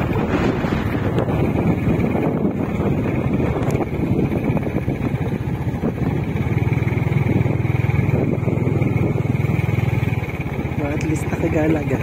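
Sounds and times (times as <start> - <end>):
vehicle engine running: 0.0 - 12.0
wind rushing over microphone: 0.0 - 12.0.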